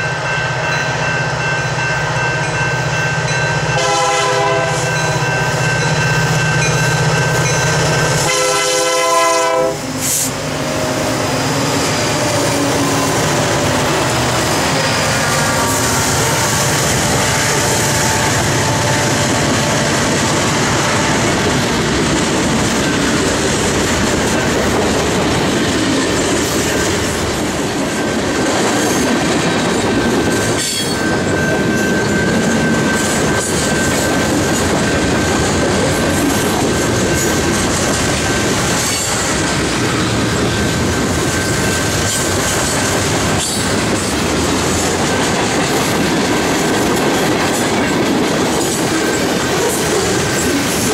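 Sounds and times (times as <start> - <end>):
freight train wheels clacking: 0.0 - 50.9.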